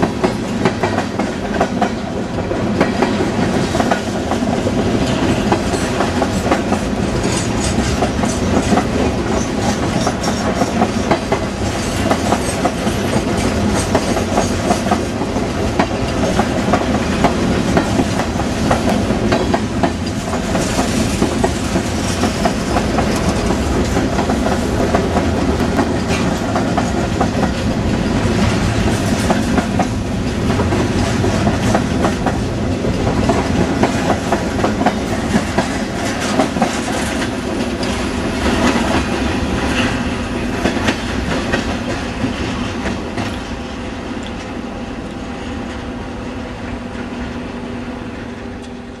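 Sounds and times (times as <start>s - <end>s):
freight train cars rolling past: 0.0s - 49.0s.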